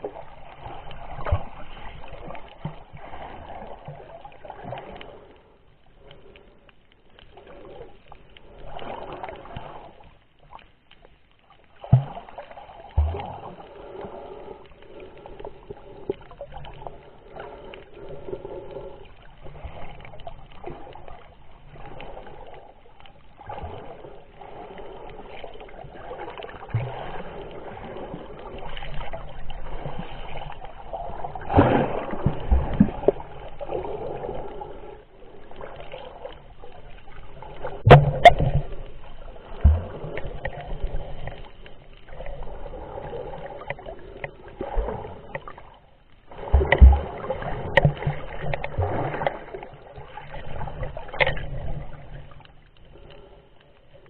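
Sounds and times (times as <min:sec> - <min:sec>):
underwater sloshing: 0:00.0 - 0:54.0.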